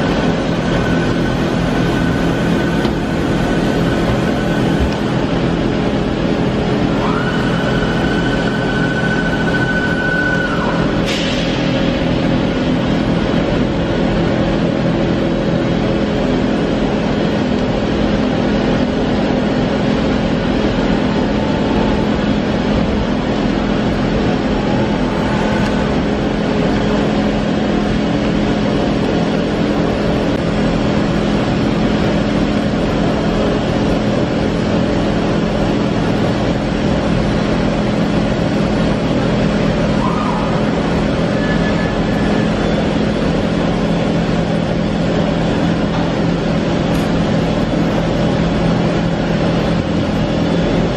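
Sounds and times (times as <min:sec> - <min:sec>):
boring mill humming: 0:00.0 - 0:50.9.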